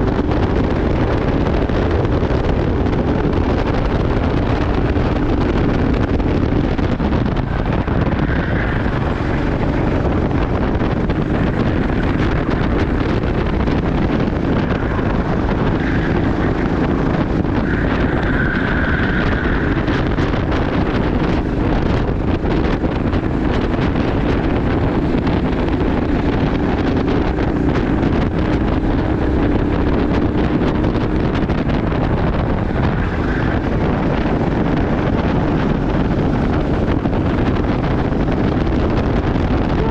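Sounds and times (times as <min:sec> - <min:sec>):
kart engine running hard: 0:00.0 - 0:39.9
wind buffeting microphone: 0:00.0 - 0:39.9.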